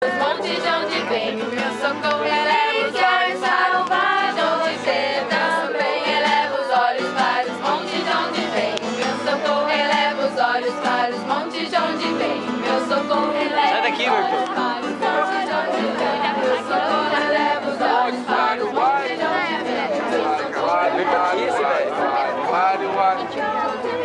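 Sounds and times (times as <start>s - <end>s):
group singing a worship song: 0.0s - 24.0s.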